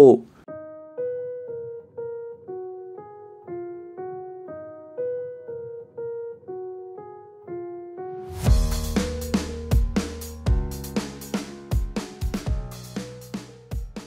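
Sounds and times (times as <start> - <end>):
slow keyboard melody: 0.5 - 14.0.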